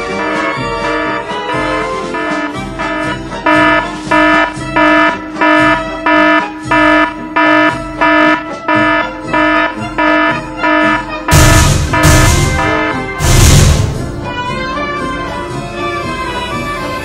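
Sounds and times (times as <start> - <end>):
pulsing alarm tone: 0.0 - 13.8.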